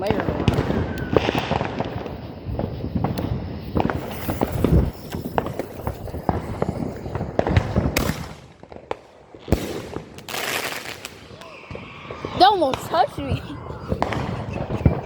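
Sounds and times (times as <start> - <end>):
fireworks popping and cracking: 0.0 - 15.0.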